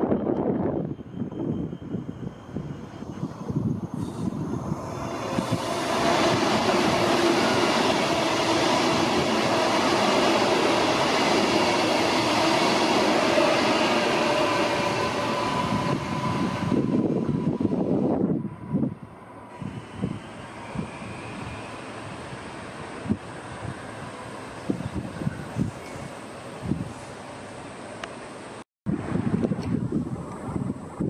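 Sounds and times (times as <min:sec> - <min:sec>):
train motor whine: 0:00.0 - 0:27.1
train wheels rushing on rail: 0:00.0 - 0:31.0.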